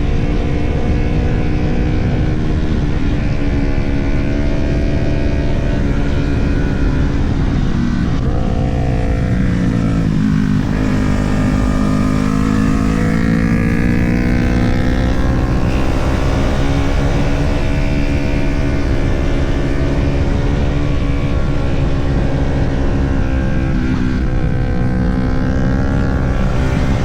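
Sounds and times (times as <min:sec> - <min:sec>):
sport motorcycle engine: 0:00.0 - 0:27.0
wind rush: 0:00.0 - 0:27.0.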